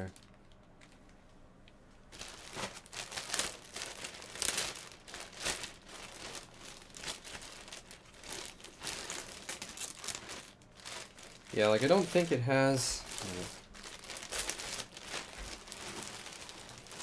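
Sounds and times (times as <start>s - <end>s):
packaging crinkling and rustling: 0.0s - 1.4s, 2.0s - 17.0s.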